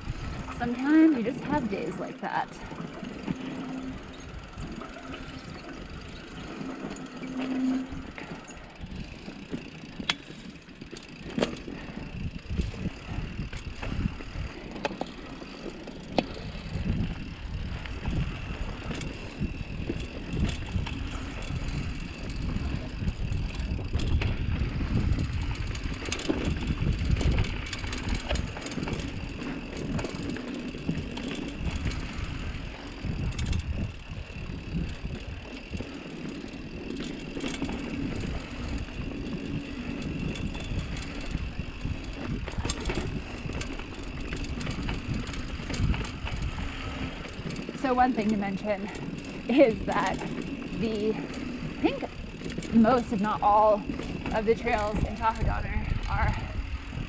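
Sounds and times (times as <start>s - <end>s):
bike rattling over bumps: 0.0s - 57.0s
bike tyres crunching over dirt: 0.0s - 57.0s.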